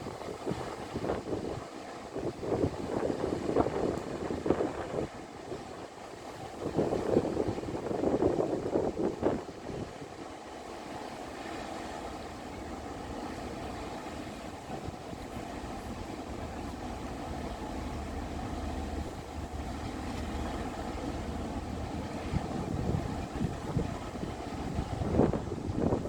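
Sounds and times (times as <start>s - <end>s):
wind gusting on microphone: 0.0s - 10.2s, 12.4s - 26.0s.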